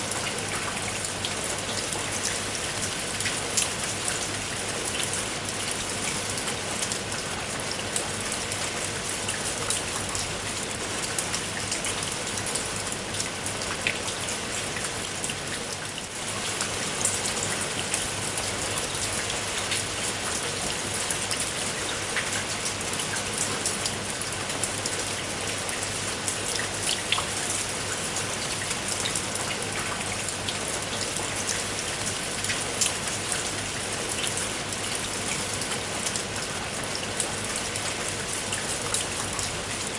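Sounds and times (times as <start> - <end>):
raindrops hitting a surface: 0.0 - 39.9
steady rain falling: 0.0 - 39.9.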